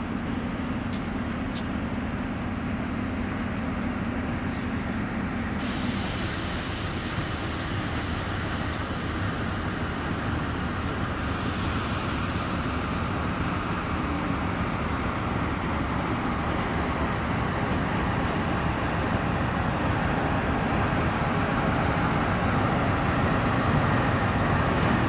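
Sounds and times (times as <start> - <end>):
diesel train engine drone: 0.0 - 25.0
train rumbling: 0.0 - 25.0.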